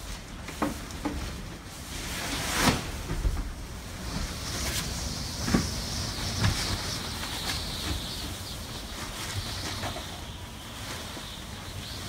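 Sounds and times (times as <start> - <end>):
blizzard wind rushing: 1.8 - 12.0.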